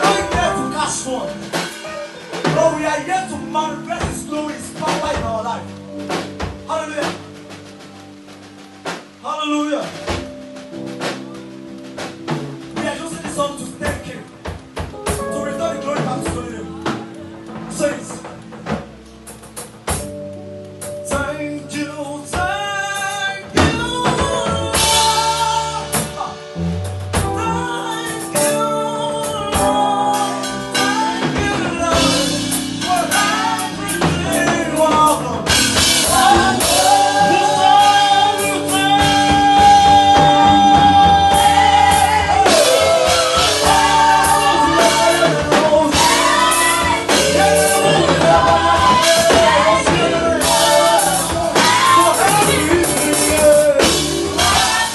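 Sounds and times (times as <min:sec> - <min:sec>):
gospel singing: 0:00.0 - 0:19.0, 0:20.0 - 0:54.9
band with drum kit: 0:00.0 - 0:54.9.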